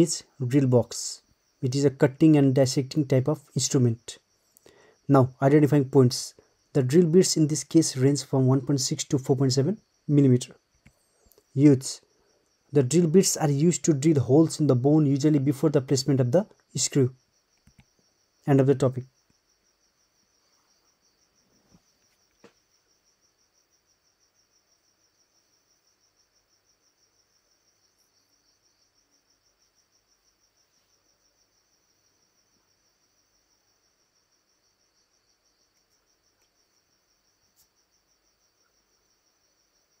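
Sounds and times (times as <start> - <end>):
cricket trilling: 0.0 - 40.0.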